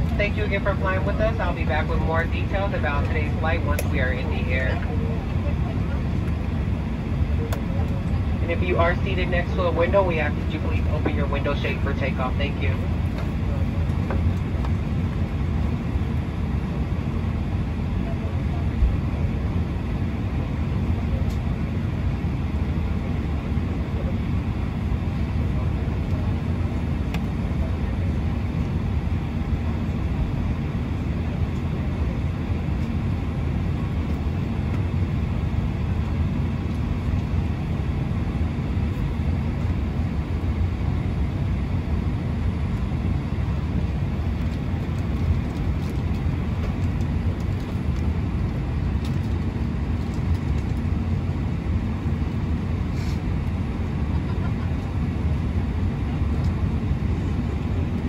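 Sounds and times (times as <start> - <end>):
aircraft cabin drone: 0.0 - 58.0.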